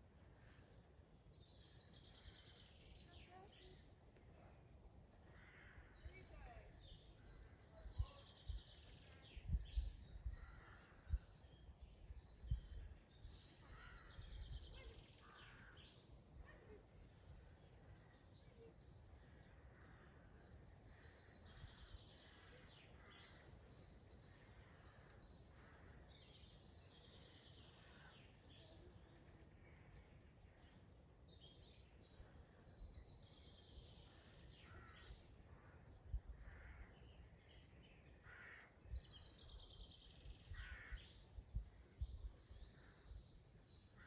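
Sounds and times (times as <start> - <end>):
woodland birds singing: 0.0 - 44.0.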